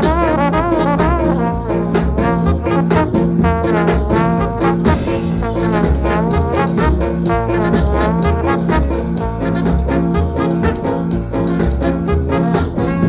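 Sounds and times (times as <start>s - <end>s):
steady bass line: 0.0s - 13.0s
trombone melody: 0.0s - 13.0s.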